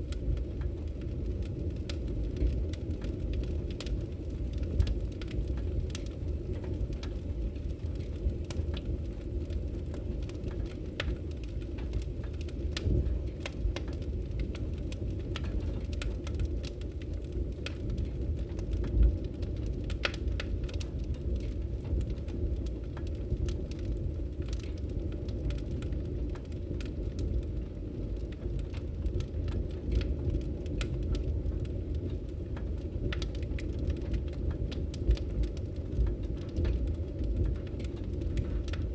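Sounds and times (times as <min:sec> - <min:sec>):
fire burning rumble: 0:00.0 - 0:38.9
wood fire pops and snaps: 0:00.0 - 0:38.9.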